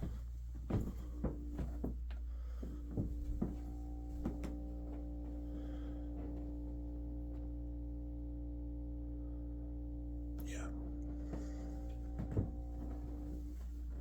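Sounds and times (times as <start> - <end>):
low humming drone: 0.0 - 14.0.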